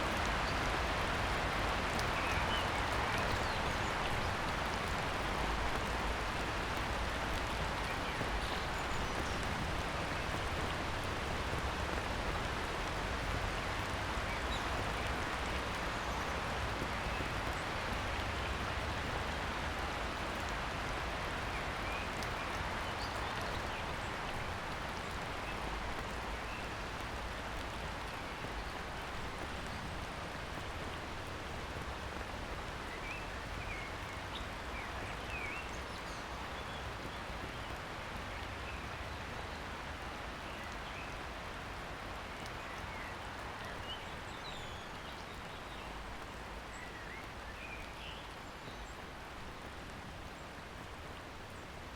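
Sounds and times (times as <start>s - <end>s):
light rain on a pond: 0.0s - 51.9s.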